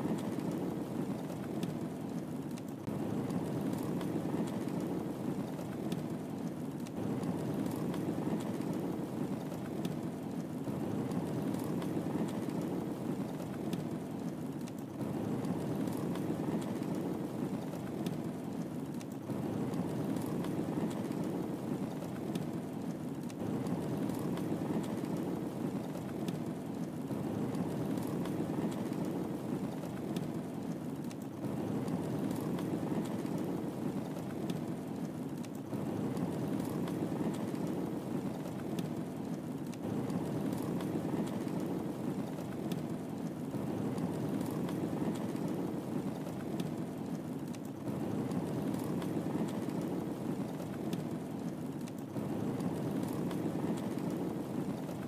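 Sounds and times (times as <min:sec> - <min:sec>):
fire crackling and popping: 0:00.0 - 0:55.0
fire flames rushing: 0:00.0 - 0:55.0.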